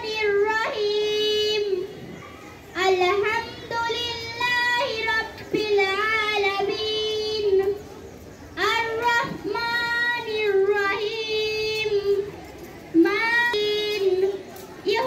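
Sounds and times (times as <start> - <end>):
girl chanting melodically: 0.0 - 2.1, 2.7 - 7.8, 8.6 - 12.3, 12.9 - 15.0.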